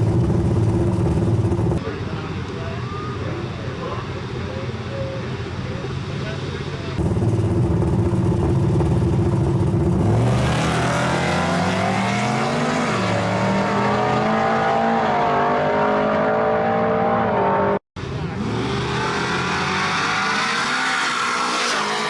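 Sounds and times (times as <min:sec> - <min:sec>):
truck engine accelerating hard: 0:00.0 - 0:22.0.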